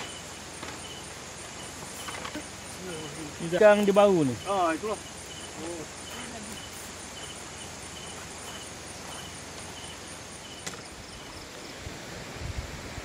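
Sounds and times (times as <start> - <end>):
high-pitched insect drone: 0.0 - 11.7
insects chirping: 0.0 - 13.0.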